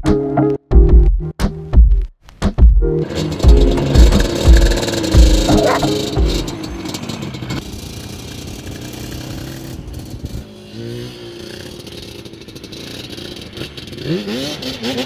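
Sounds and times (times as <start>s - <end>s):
two-stroke engine revving: 2.9s - 15.0s.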